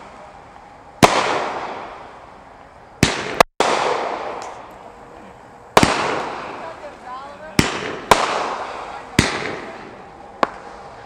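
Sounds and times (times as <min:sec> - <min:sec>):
small firework crack: 0:00.0 - 0:04.9, 0:05.7 - 0:11.0
noisy firework tail: 0:00.0 - 0:11.0
firework bangs: 0:01.0 - 0:04.8, 0:05.7 - 0:11.0.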